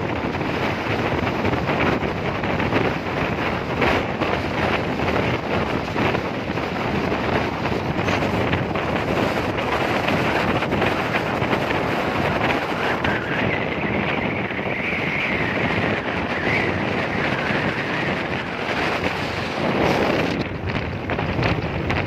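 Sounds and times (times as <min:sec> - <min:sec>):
tyres on road: 0:00.0 - 0:22.0
wind buffeting microphone: 0:00.0 - 0:22.0.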